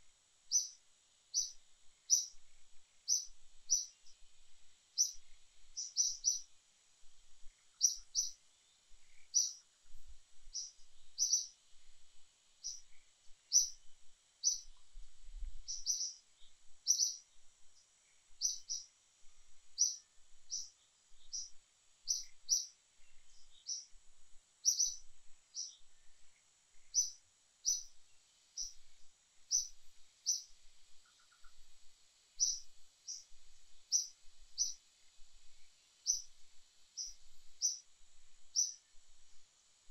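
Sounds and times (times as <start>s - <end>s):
small bird chirping: 0.5s - 39.2s.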